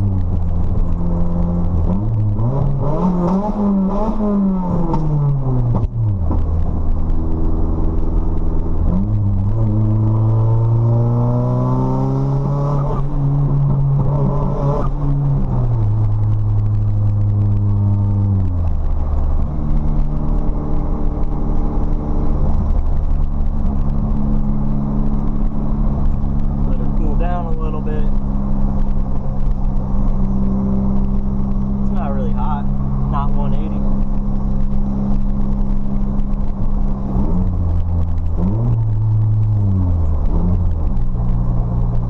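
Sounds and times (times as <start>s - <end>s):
car engine revving while driving: 0.0s - 42.0s.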